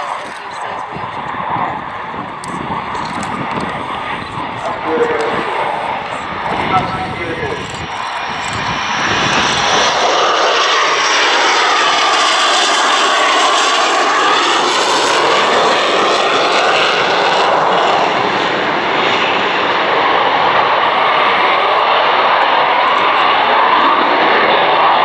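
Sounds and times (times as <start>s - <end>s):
jet aircraft roar: 0.0s - 25.0s.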